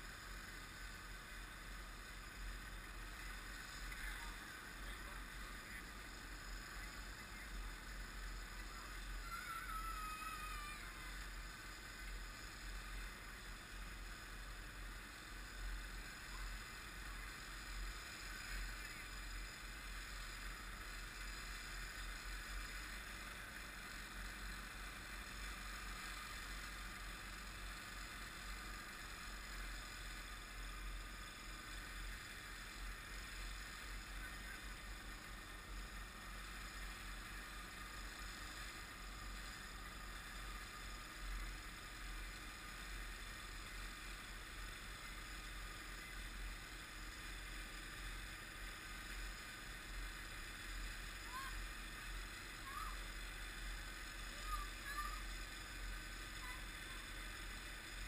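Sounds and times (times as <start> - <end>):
snow blower engine running: 0.0 - 58.0.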